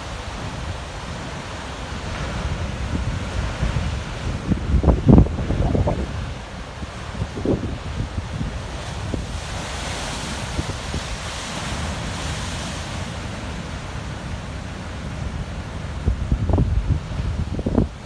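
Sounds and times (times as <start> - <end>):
wind buffeting microphone: 0.0 - 13.0, 15.2 - 18.0
surf breaking on rocky shore: 0.0 - 18.0.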